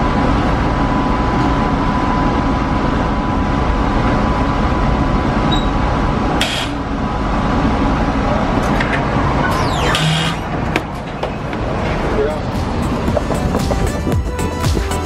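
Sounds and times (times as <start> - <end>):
streetcar rumbling on tracks: 0.0 - 15.0.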